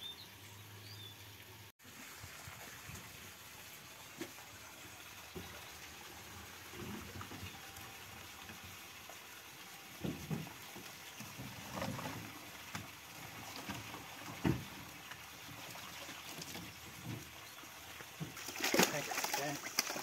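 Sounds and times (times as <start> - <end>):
distant water sloshing: 1.8 - 20.0.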